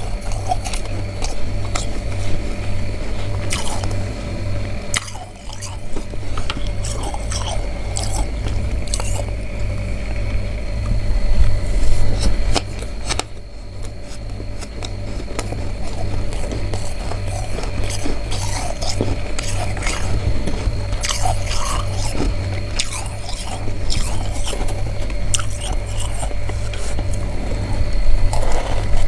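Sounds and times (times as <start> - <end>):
frost being chewed crunching: 0.0 - 29.0
steady hum: 0.0 - 29.0.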